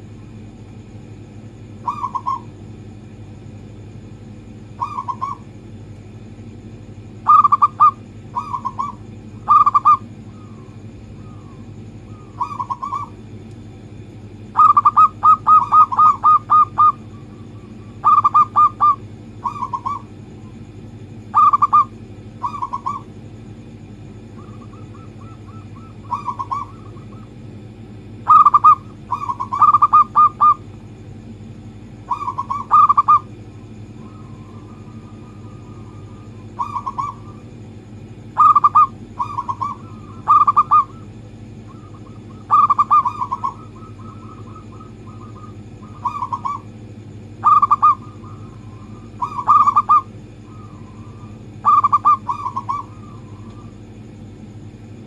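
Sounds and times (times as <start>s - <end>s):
doves cooing: 0.0s - 5.8s, 6.6s - 30.8s, 31.7s - 55.0s.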